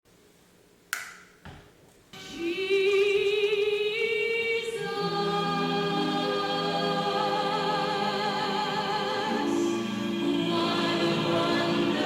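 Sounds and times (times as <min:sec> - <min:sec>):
choral music: 0:02.1 - 0:12.0.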